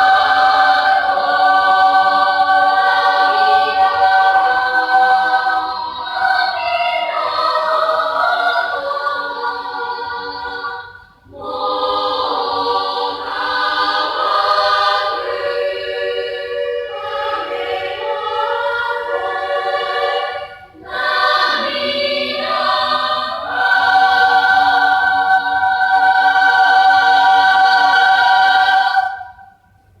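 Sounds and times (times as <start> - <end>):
school choir singing: 0.0 - 29.6.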